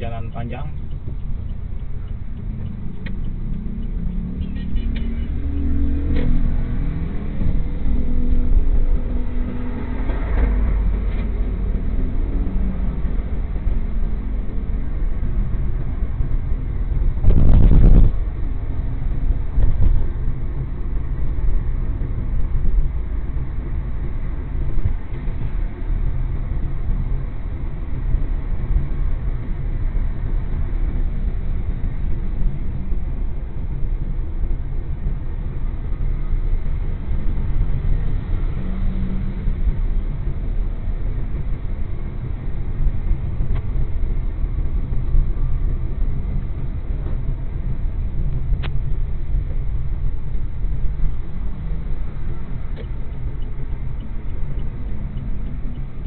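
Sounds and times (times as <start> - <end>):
car driving rumble from inside: 0.0 - 56.0.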